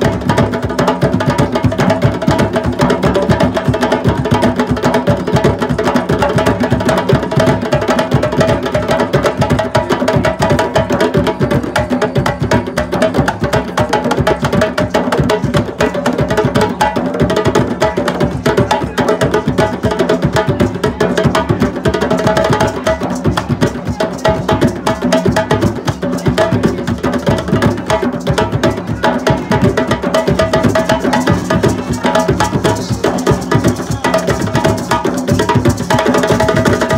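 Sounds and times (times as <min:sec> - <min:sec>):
hand drums ensemble: 0:00.0 - 0:36.9.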